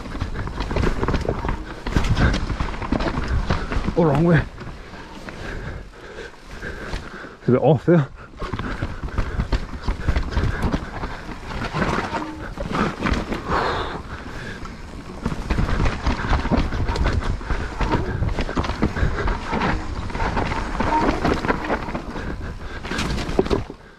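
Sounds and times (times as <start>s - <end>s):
bike rattling and knocking: 0.0s - 23.9s
bike tyres rumbling over dirt: 0.0s - 23.9s.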